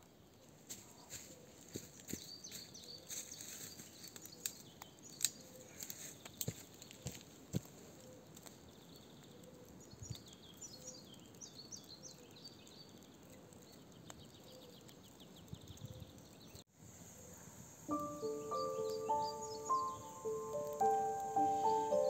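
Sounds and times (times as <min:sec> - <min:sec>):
forest ambience: 0:00.0 - 0:15.5, 0:16.1 - 0:22.0
songbird chirping: 0:00.9 - 0:07.2, 0:08.0 - 0:16.7, 0:17.3 - 0:22.0.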